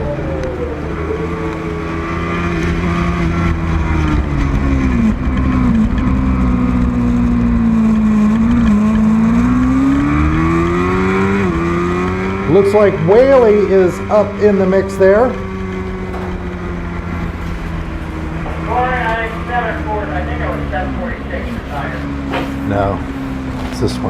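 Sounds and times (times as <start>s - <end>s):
racing motorcycle engine revving: 0.0s - 24.0s.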